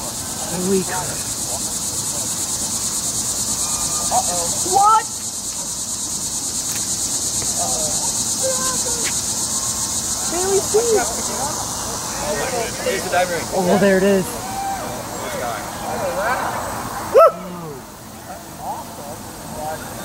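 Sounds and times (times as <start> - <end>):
faint voices: 0.0 - 20.0
insects trilling: 0.0 - 20.0.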